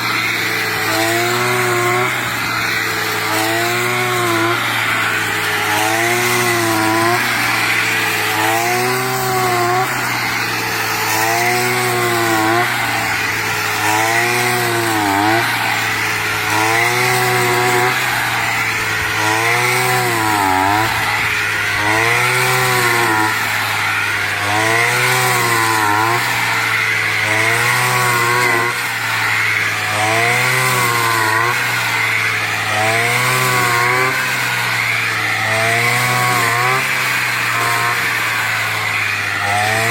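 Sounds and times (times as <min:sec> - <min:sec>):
brush cutter engine cutting: 0:00.0 - 0:39.9.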